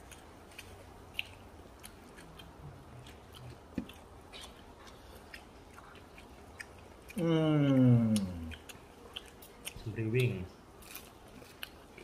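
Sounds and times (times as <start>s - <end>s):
quiet chewing: 0.0s - 12.0s.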